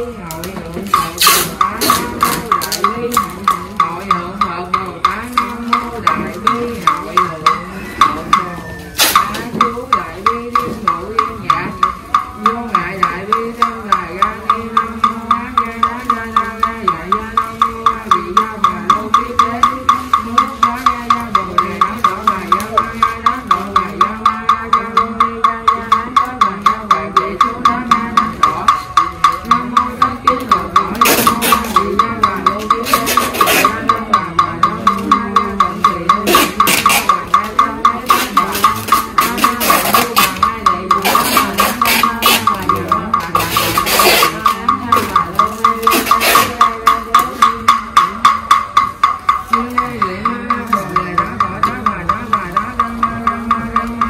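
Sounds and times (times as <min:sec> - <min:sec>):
person chanting: 0:00.0 - 0:54.0
wooden fish struck steadily: 0:00.0 - 0:54.0.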